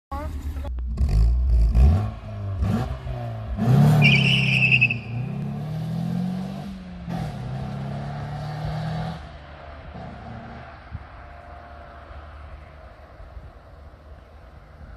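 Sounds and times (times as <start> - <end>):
car engine revving: 0.4 - 12.4.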